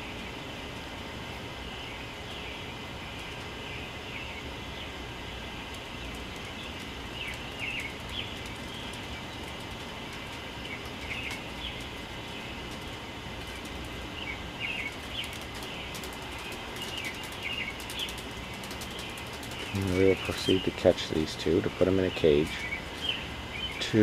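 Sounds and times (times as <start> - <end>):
songbird chirping: 1.6 - 24.0.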